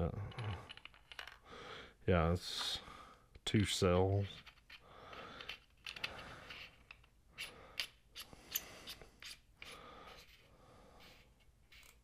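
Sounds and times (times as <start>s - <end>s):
faint breaths: 0.1s - 3.4s, 4.7s - 11.5s.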